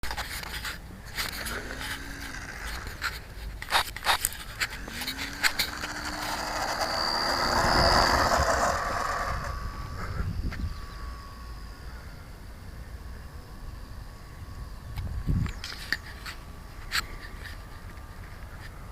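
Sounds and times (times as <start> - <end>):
model plane motor and propeller: 0.1 - 18.9.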